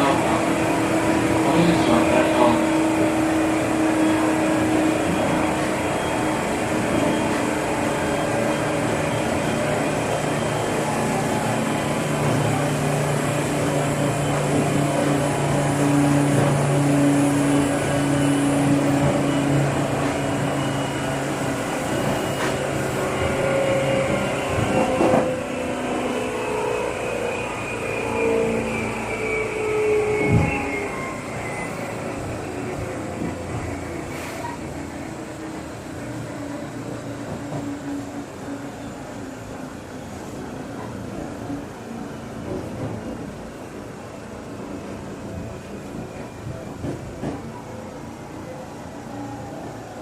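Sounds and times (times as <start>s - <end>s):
train motor and gear tones: 0.0s - 50.0s
train wheel and rail rumble: 0.0s - 50.0s.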